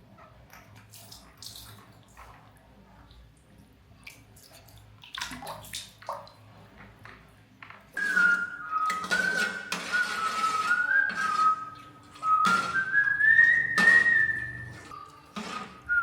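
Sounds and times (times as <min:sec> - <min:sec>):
water splashing and trickling: 0:00.5 - 0:07.1, 0:08.0 - 0:16.0.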